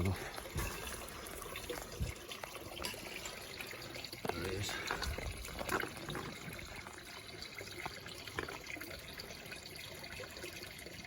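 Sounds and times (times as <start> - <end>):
small water splashes: 0.0 - 11.0
water trickling from waterfall: 0.0 - 11.0.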